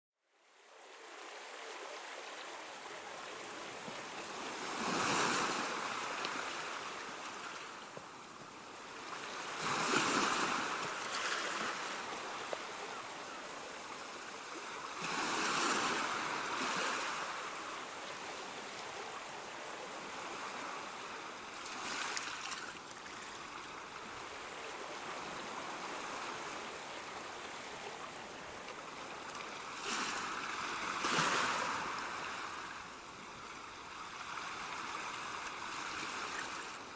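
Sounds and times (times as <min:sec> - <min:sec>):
ocean waves crashing on shore: 0:00.6 - 0:36.9.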